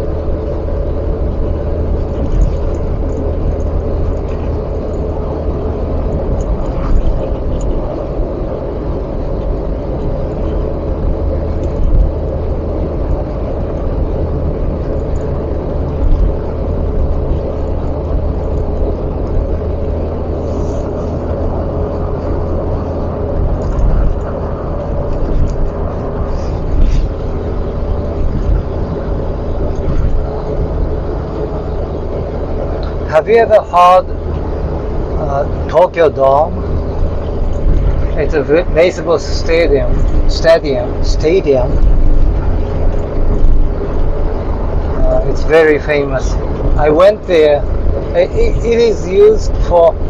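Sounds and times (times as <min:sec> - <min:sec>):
engine and road rumble: 0:00.0 - 0:50.0.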